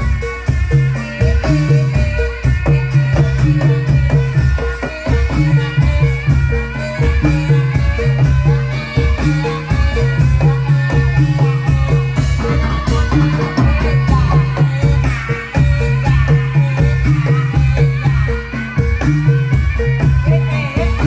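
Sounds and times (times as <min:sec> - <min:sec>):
percussion: 0:00.0 - 0:21.0
traditional ensemble music: 0:00.0 - 0:21.0.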